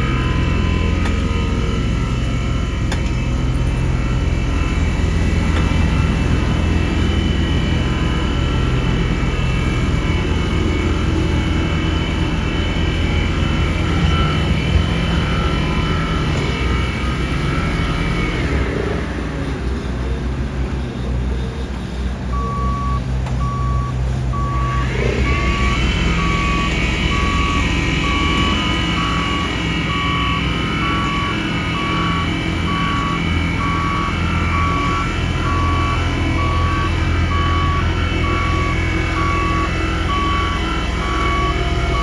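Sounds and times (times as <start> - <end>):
backup alarm beeping: 0.0 - 18.8, 21.5 - 42.0
diesel engine rumble: 0.0 - 42.0
rising mechanical whine: 0.0 - 42.0.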